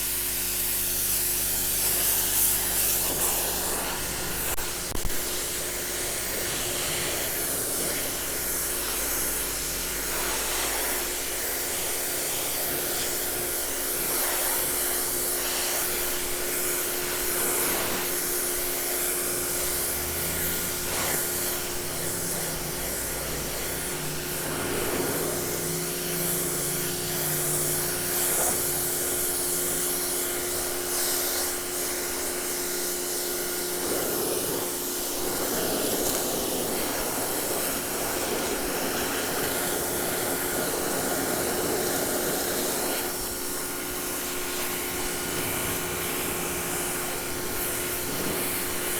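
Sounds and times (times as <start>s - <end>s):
pressure washer motor and pump hum: 0.0s - 48.9s
water jet hissing onto steps: 0.0s - 48.9s.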